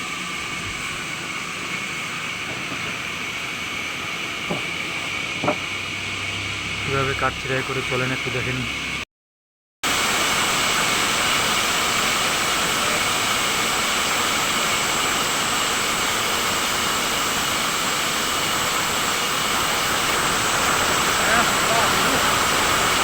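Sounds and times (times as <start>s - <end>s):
faint high whine: 0.0s - 9.0s, 10.4s - 23.0s
sawmill machinery running: 0.0s - 9.0s, 9.9s - 23.0s.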